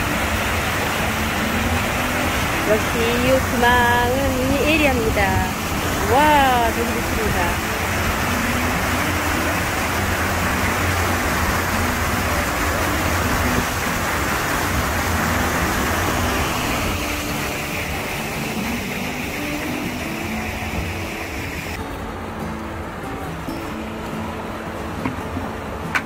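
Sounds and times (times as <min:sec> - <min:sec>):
motorboat engine hum: 0:00.0 - 0:26.0
water churning in wake: 0:00.0 - 0:26.0.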